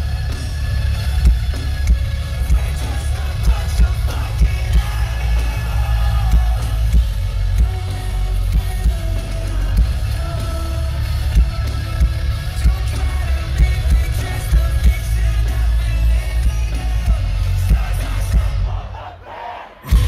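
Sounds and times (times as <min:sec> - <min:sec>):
live metal band playing: 0:00.0 - 0:19.0
sung vocals: 0:01.5 - 0:20.0.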